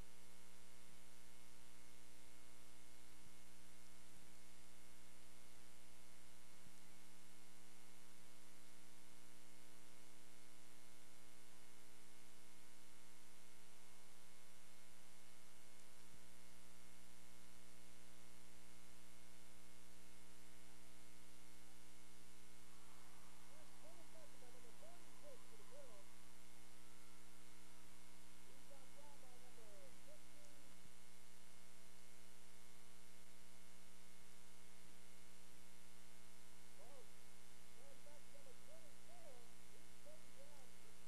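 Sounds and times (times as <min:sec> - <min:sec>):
electrical hum: 0:00.0 - 0:41.0.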